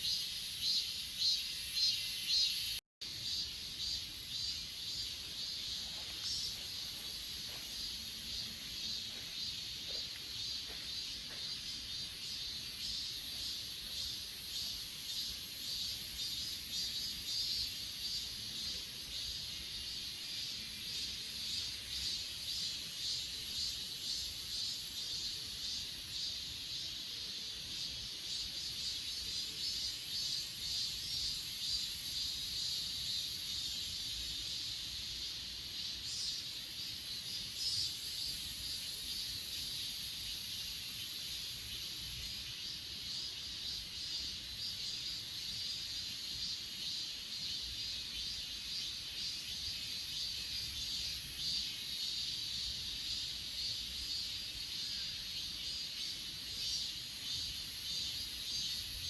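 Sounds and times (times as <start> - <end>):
grass insects chirping: 0.0 - 59.0.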